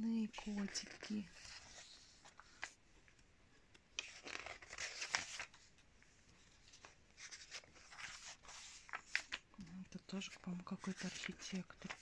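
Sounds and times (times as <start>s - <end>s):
magazine pages rustling: 0.2s - 12.0s.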